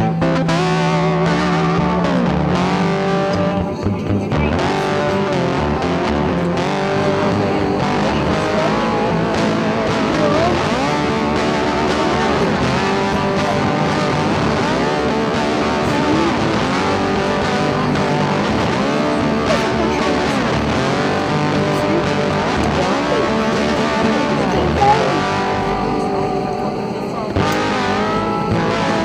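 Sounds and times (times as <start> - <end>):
rock music with electric guitar: 0.0 - 29.0.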